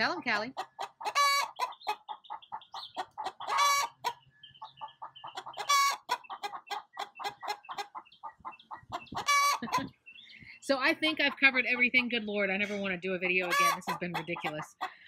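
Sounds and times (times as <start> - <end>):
hens cackling: 0.3 - 15.0.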